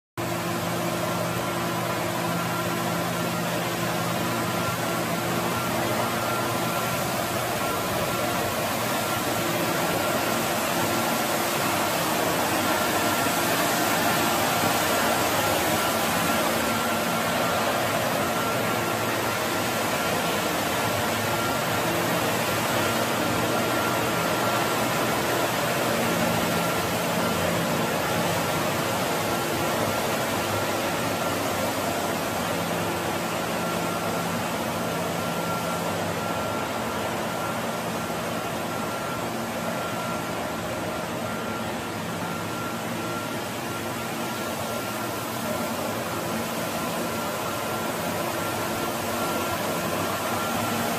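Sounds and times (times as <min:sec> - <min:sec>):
floor scrubber humming and whining: 0:00.2 - 0:50.9.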